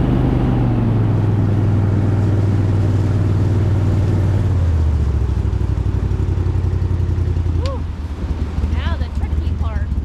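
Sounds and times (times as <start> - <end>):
engine running at speed: 0.0 - 10.0.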